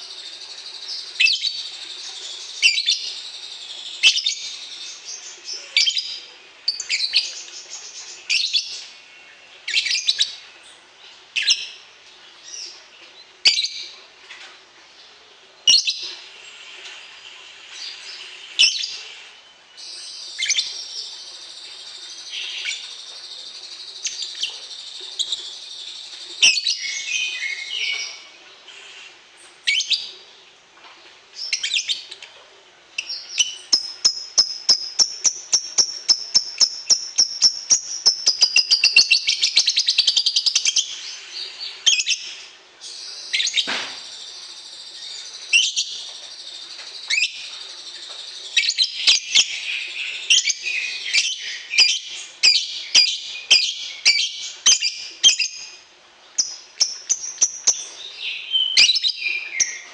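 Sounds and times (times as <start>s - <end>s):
caged songbirds singing: 0.0s - 59.9s.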